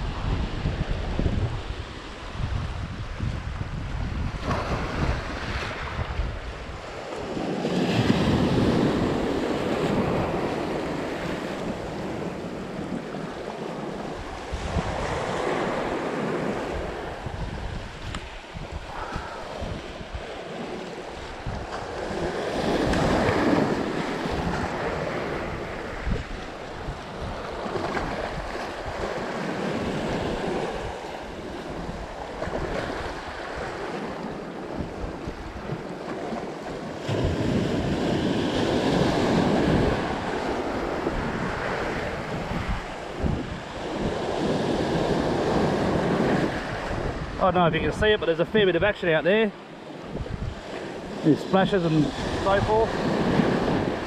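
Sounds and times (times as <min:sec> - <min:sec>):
wind buffeting microphone: 0:00.0 - 0:49.4, 0:50.0 - 0:54.0
waves breaking over rocks: 0:00.4 - 0:54.0.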